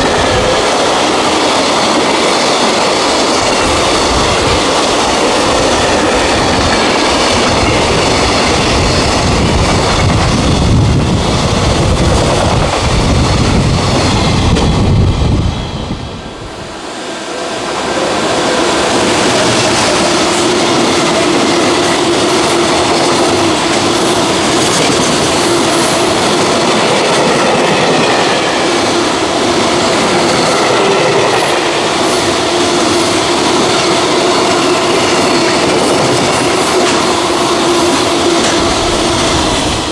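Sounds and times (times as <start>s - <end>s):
clickety-clack of rail joints: 0.0s - 15.7s, 17.6s - 39.9s
freight train passing: 0.0s - 39.9s.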